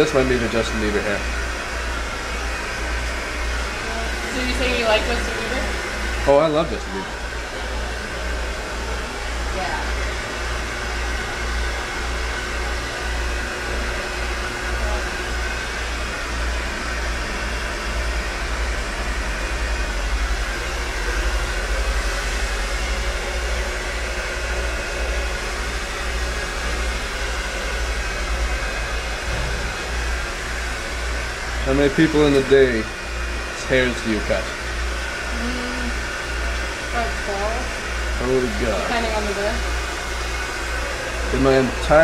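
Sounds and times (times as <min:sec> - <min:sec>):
hair appliance electric whir: 0:00.0 - 0:42.0
low hum: 0:00.0 - 0:42.0.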